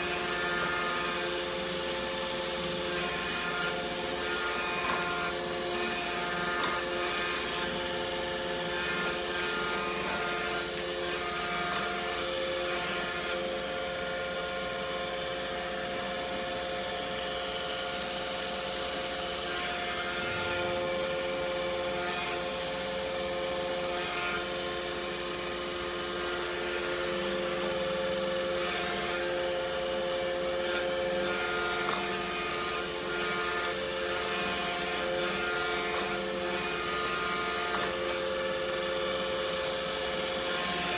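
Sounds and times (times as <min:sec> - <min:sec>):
robot vacuum motor whine: 0:00.0 - 0:40.9.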